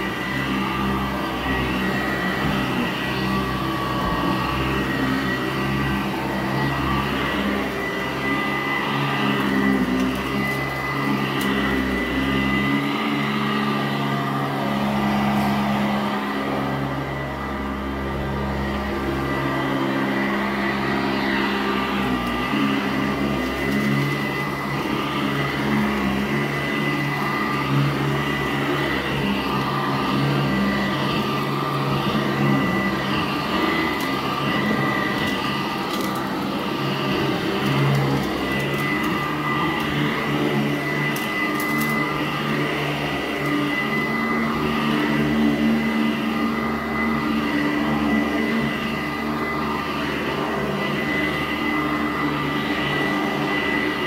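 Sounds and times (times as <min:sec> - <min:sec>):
upright vacuum running on carpet: 0:00.0 - 0:54.0.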